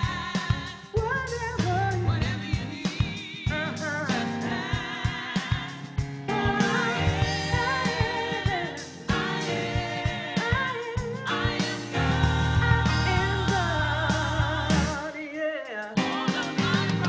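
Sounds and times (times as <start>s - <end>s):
band with drums and bass: 0.0s - 15.1s, 16.0s - 17.0s.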